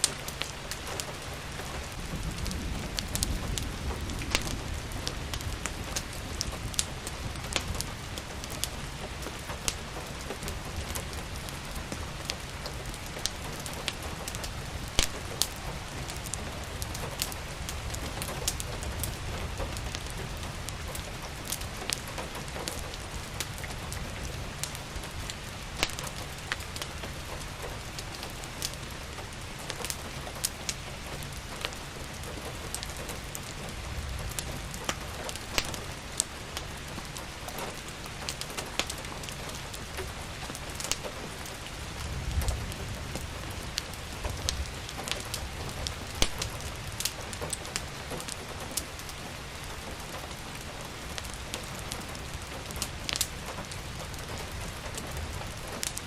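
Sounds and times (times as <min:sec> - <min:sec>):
steady rainfall: 0:00.0 - 0:56.0
wood fire crackling: 0:00.0 - 0:56.0.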